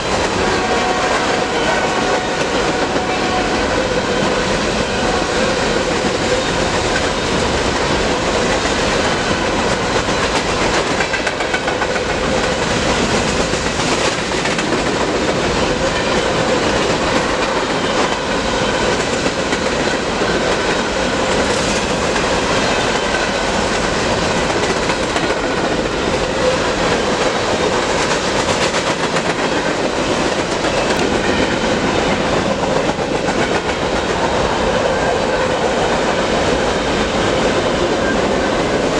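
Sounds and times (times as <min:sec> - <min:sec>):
freight train cars rolling past: 0:00.0 - 0:38.9
wheels clacking over rails: 0:03.8 - 0:36.5.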